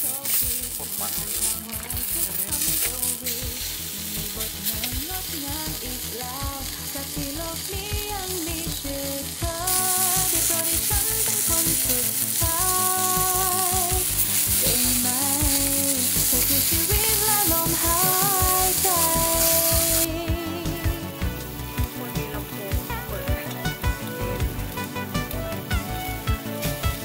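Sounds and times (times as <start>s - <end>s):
background song: 0.0s - 27.0s
meat sizzling on a grill pan: 0.0s - 27.0s.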